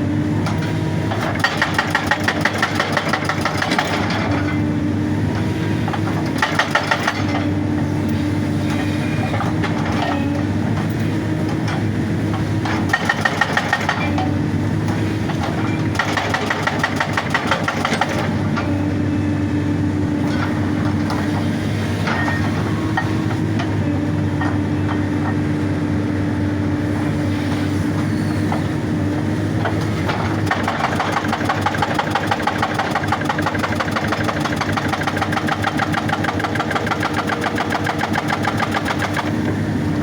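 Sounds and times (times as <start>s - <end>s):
diesel engine running: 0.0s - 40.0s
hydraulic rock breaker hammering: 0.4s - 4.7s, 5.8s - 18.8s, 20.2s - 25.4s, 29.6s - 39.7s.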